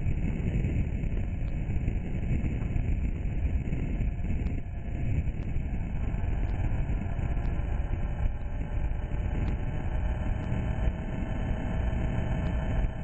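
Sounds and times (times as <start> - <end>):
model airplane propeller: 0.0 - 13.0.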